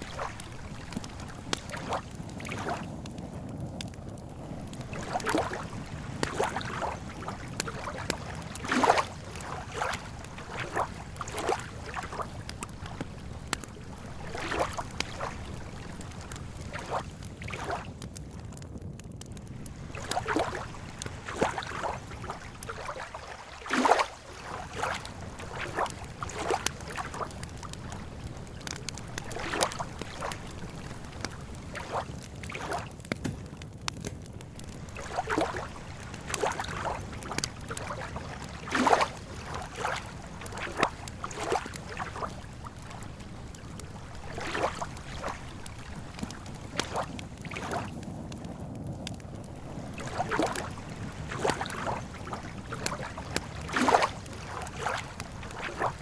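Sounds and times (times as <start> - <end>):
water lapping and gurgling: 0.0 - 56.0.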